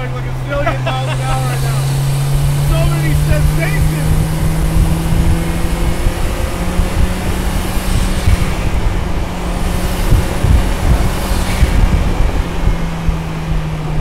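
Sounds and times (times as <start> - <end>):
car engine cruising: 0.0 - 14.0
heavy wind: 0.0 - 14.0
road rumble: 0.0 - 14.0.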